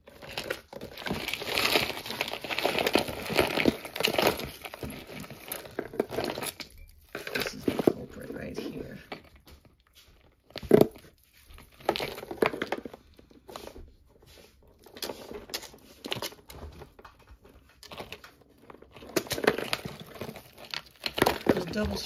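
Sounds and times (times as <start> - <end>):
plastic bag crinkling: 0.0 - 13.8, 14.6 - 22.0.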